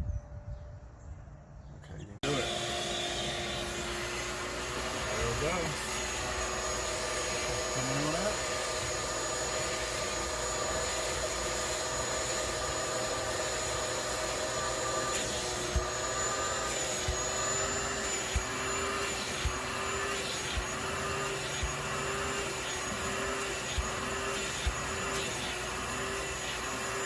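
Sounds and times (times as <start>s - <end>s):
vacuum cleaner motor whining: 2.2s - 27.0s.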